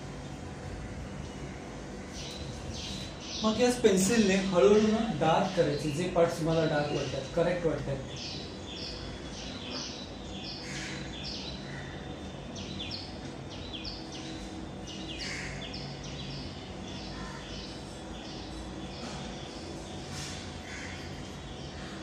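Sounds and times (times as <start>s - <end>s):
steady low hum: 0.0s - 22.0s
small birds chirping: 1.3s - 22.0s.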